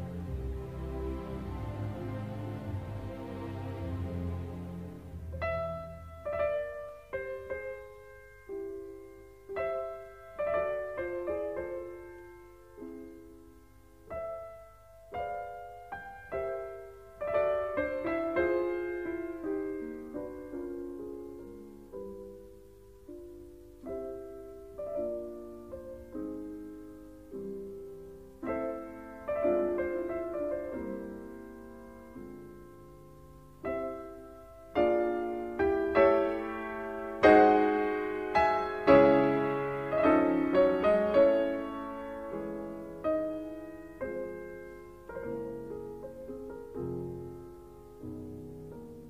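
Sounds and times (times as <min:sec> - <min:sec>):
slow solo piano chords: 0:00.0 - 0:49.0.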